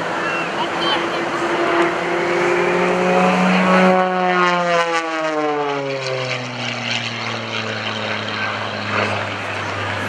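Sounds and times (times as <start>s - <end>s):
propeller plane passing by: 0.0s - 10.0s.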